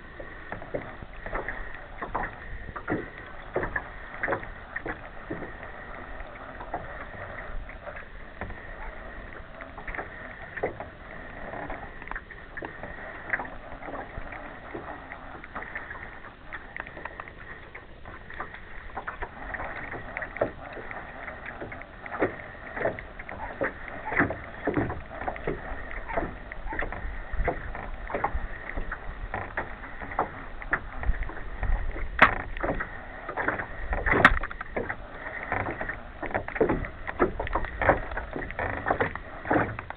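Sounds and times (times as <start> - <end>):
waves lapping against boat hull: 0.0 - 39.9.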